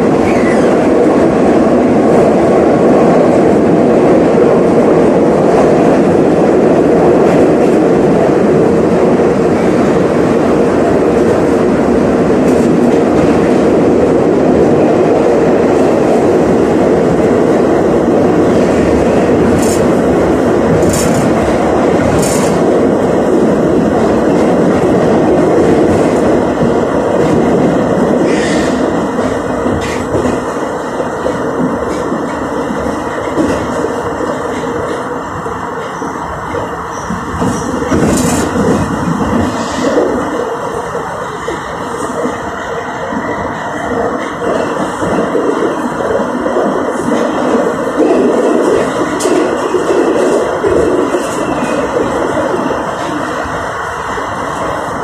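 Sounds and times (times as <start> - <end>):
train wheels rumbling in tunnel: 0.0 - 55.0.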